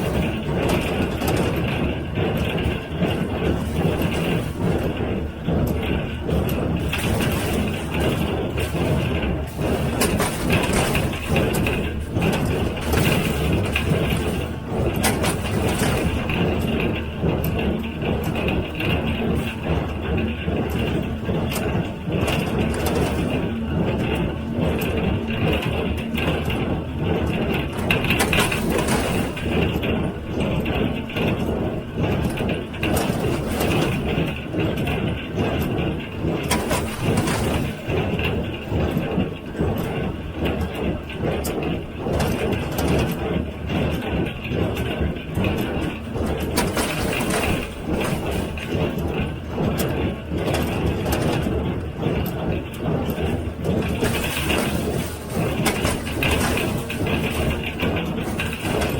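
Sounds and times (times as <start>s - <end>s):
baler mechanical clatter: 0.0s - 58.9s.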